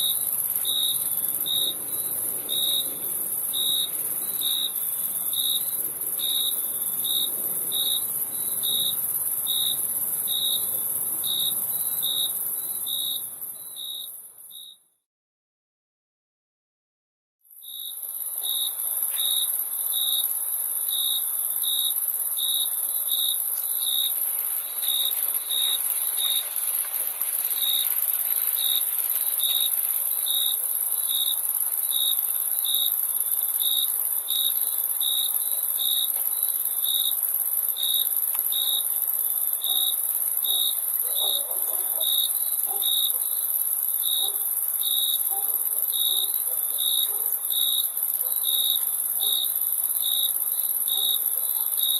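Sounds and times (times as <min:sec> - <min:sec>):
cricket chirps: 0:00.0 - 0:14.9, 0:17.5 - 0:51.9.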